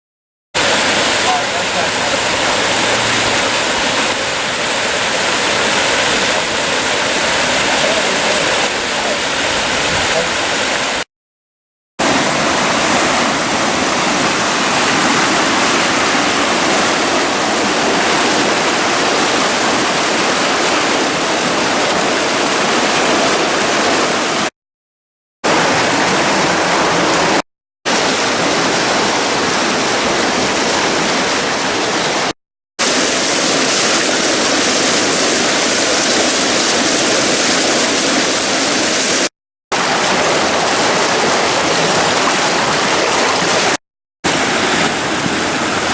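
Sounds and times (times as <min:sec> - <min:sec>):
creek rushing: 0:00.6 - 0:11.1, 0:12.0 - 0:24.5, 0:25.4 - 0:45.9.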